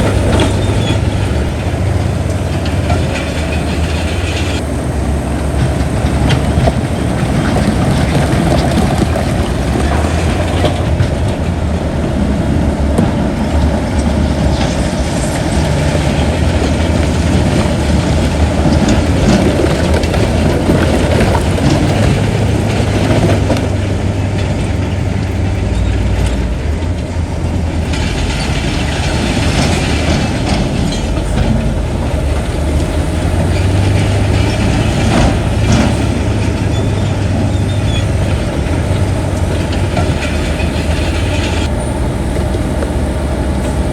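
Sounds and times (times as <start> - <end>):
crawler tracks clanking: 0.0 - 43.9
diesel engine under load: 0.0 - 43.9.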